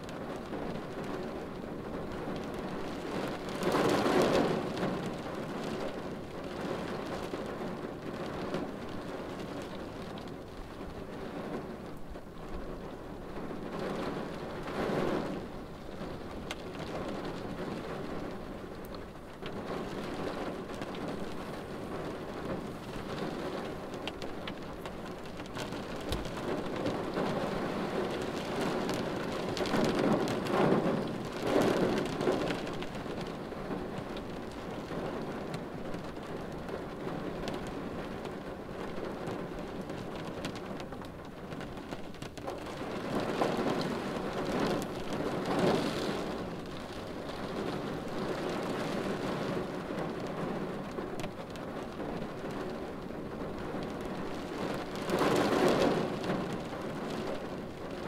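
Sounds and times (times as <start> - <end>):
rain pattering on windshield: 0.0 - 58.0.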